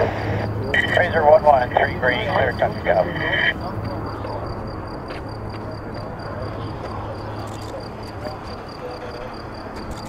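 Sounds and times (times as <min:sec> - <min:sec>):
distant jet engine rumble: 0:00.0 - 0:10.0.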